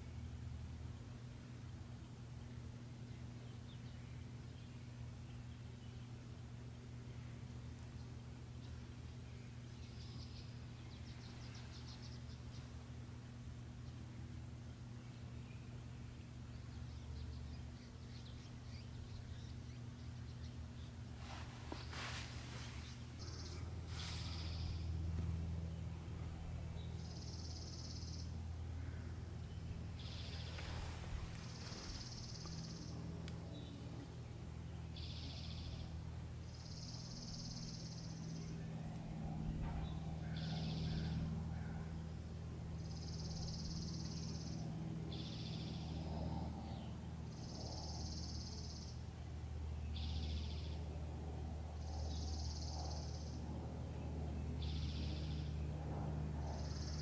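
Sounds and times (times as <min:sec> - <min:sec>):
bird buzzy song: 0:00.0 - 0:57.0
steady low hum: 0:00.0 - 0:57.0.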